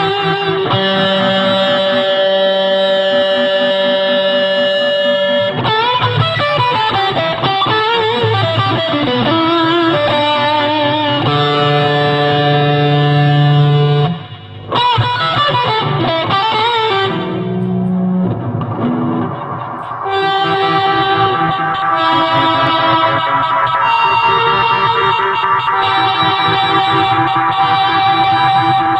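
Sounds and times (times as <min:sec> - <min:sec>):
distorted electric guitar: 0:00.0 - 0:28.9.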